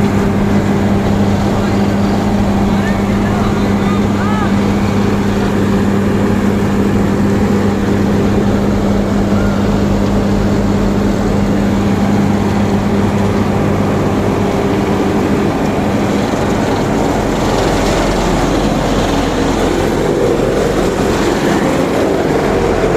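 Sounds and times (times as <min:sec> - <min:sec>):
diesel engines humming: 0:00.0 - 0:22.9
harsh machinery noise: 0:00.0 - 0:22.9.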